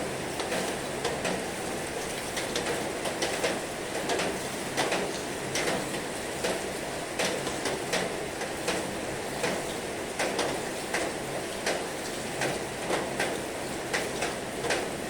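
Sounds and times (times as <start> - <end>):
raindrops tapping close by: 0.2 - 15.0.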